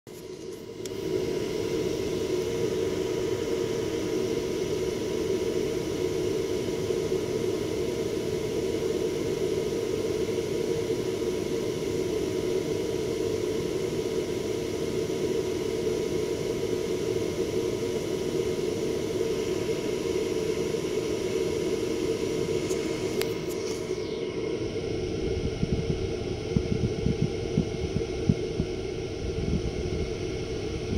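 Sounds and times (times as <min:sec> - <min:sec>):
projector cooling fans humming: 0:00.1 - 0:30.9.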